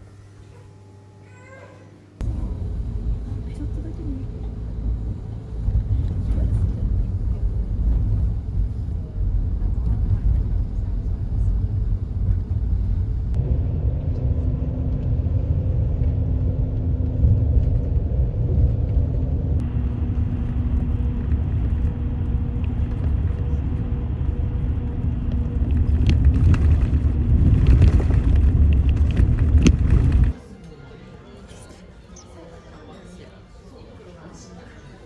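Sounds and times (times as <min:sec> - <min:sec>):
faint steady hum: 0:00.0 - 0:30.4
vehicle rumble from inside cabin: 0:02.2 - 0:30.4.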